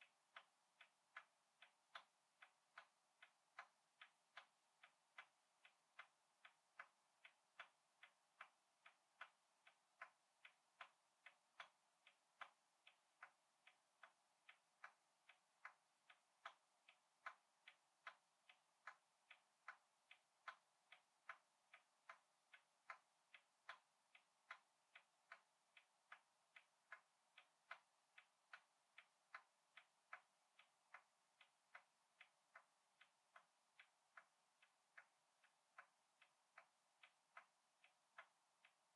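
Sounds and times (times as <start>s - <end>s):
faint even ticking: 0.0s - 38.9s.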